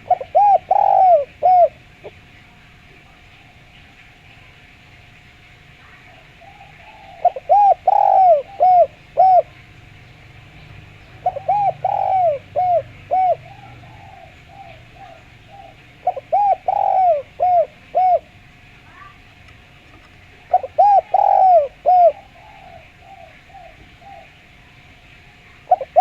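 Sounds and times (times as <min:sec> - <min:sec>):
dove cooing: 0:00.0 - 0:03.8, 0:05.8 - 0:26.0.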